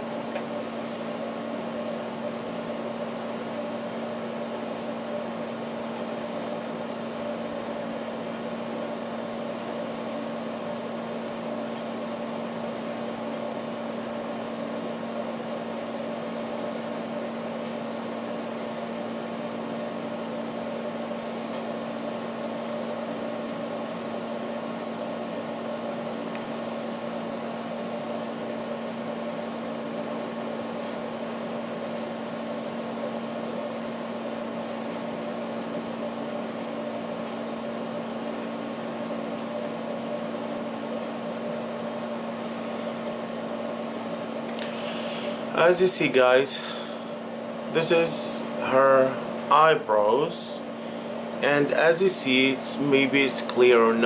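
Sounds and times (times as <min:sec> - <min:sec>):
machine humming with whine: 0:00.0 - 0:54.0.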